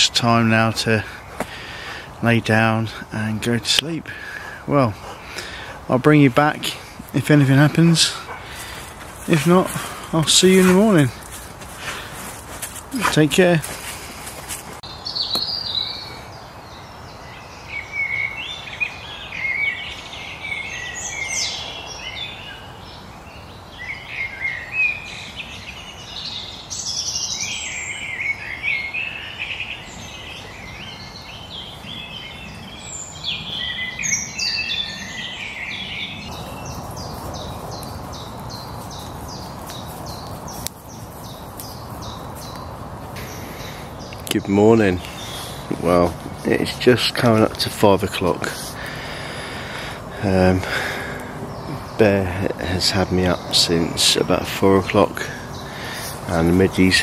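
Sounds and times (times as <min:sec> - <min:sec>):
steady background hiss: 0:00.0 - 0:57.0
wild birds singing and chirping: 0:00.0 - 0:57.0.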